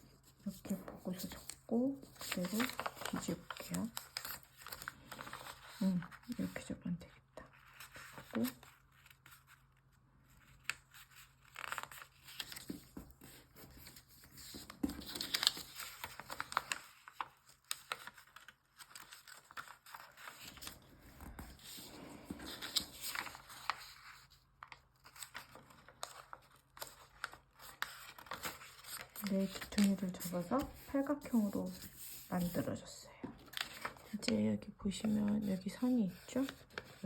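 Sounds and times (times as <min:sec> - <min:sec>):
paper being folded and creased: 0:00.0 - 0:06.8, 0:07.5 - 0:37.0.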